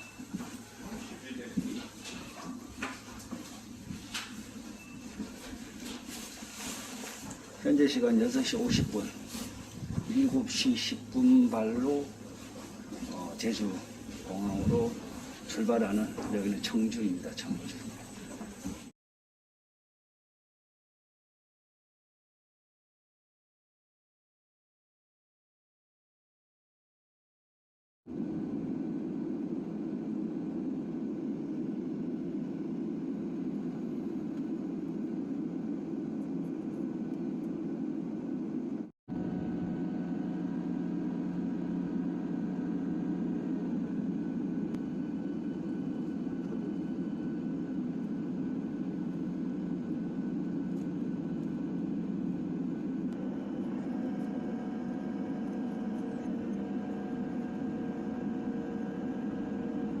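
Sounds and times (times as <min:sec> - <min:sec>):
jet airliner cabin drone: 0:00.0 - 0:18.9, 0:28.1 - 1:00.0.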